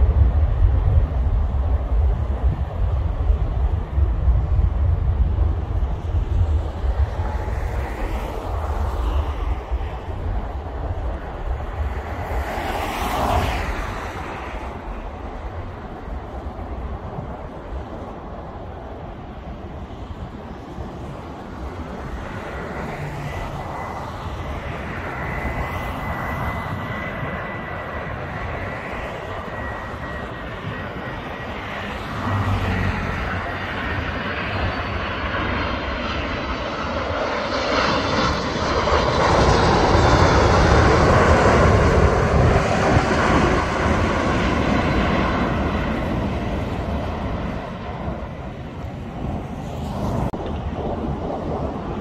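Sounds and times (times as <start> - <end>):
jet airliner passing: 0.0 - 52.0.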